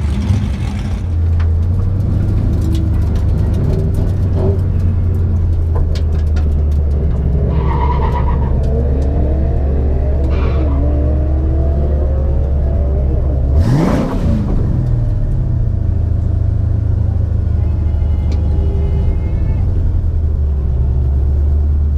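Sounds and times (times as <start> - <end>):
car engine droning: 0.0 - 21.3.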